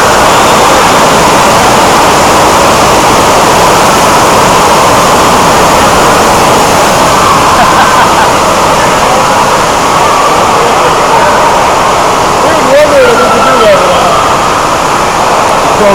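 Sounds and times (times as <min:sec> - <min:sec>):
steady loud rushing noise: 0:00.0 - 0:15.9.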